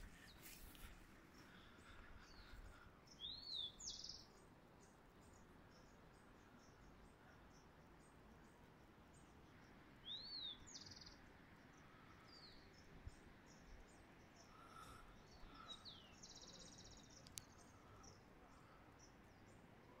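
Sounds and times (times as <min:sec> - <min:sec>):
birds singing: 0:00.0 - 0:20.0
low background hiss: 0:00.0 - 0:20.0.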